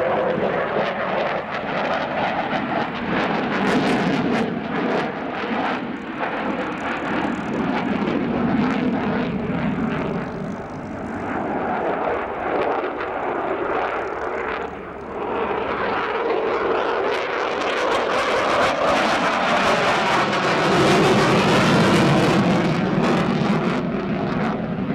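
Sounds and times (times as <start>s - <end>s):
aircraft engine: 0.0s - 24.9s.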